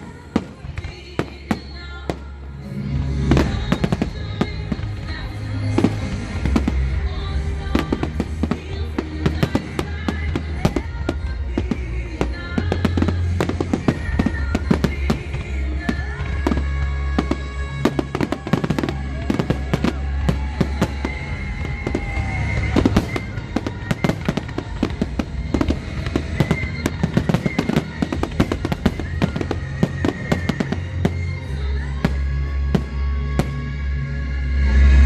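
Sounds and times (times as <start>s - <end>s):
fireworks bangs and crackles: 0.0s - 35.0s
music playing: 0.0s - 35.0s.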